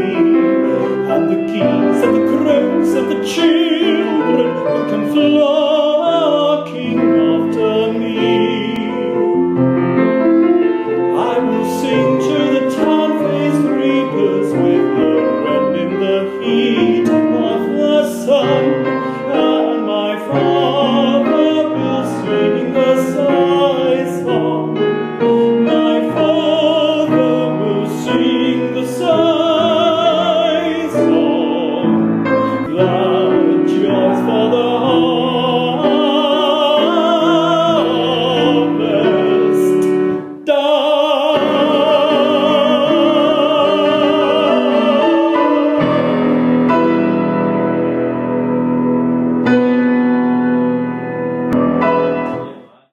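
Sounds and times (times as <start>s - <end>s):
man singing classical song: 0.0s - 52.9s
piano accompaniment: 0.0s - 52.9s.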